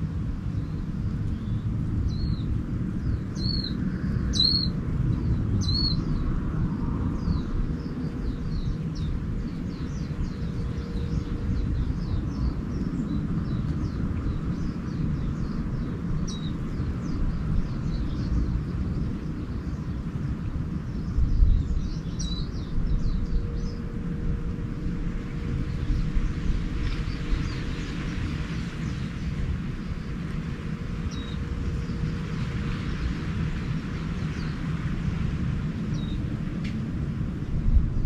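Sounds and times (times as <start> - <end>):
songbirds chirping: 0.0 - 38.0
steady low rumble: 0.0 - 38.0.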